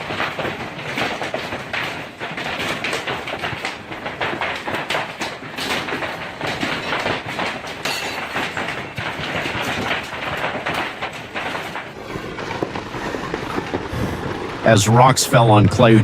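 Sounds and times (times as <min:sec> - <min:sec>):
hailstones pounding hard surfaces: 0:00.0 - 0:16.0.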